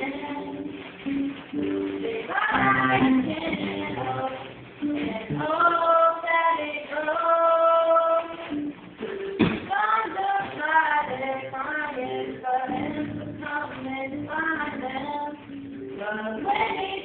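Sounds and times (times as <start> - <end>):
young woman singing: 0.0 - 0.8, 1.8 - 8.5, 9.6 - 17.0
plucked guitar: 0.0 - 5.8, 8.5 - 17.0.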